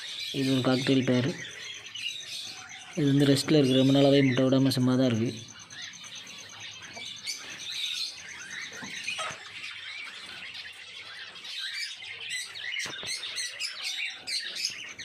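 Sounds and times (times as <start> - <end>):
small birds chirping and calling: 0.0 - 15.0.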